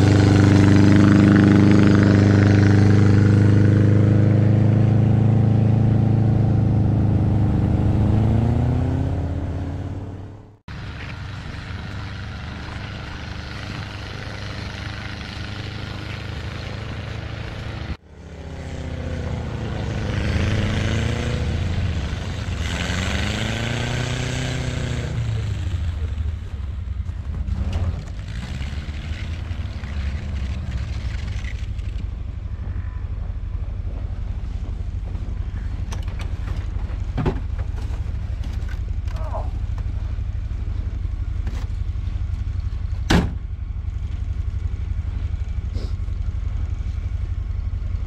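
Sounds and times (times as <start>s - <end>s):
utv engine running: 0.0s - 48.0s.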